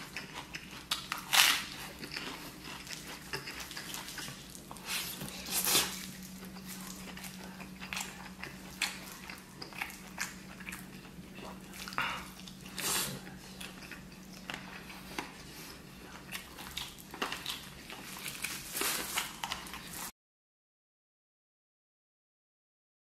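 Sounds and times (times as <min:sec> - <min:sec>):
wet chewing and smacking: 0:00.0 - 0:20.1.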